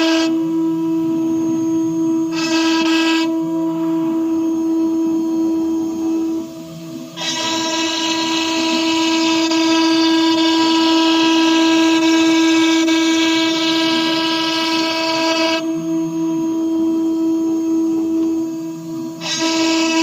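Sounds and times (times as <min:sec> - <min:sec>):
harsh multi-tone whine: 0:00.0 - 0:20.0
router steady high-pitched whine: 0:00.0 - 0:20.0.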